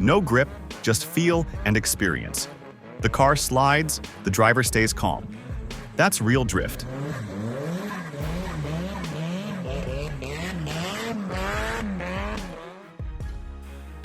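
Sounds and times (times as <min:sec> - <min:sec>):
car engine revving in pulses: 0:00.0 - 0:13.1.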